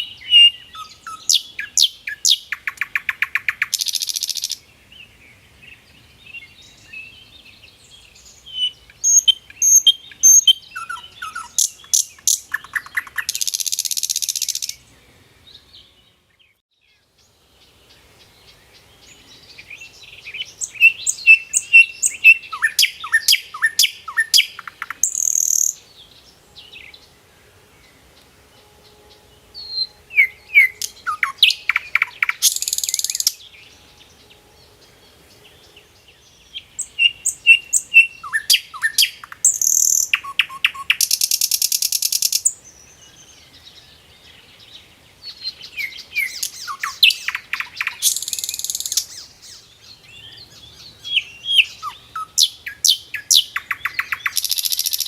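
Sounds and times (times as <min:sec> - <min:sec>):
songbird chirping with buzzy trills: 0:00.0 - 0:55.0.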